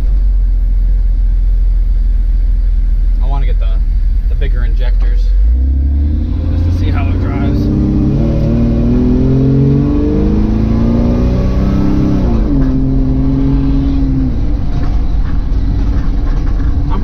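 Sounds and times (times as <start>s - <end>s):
car engine accelerating: 0.0s - 17.0s
low road rumble: 0.0s - 17.0s.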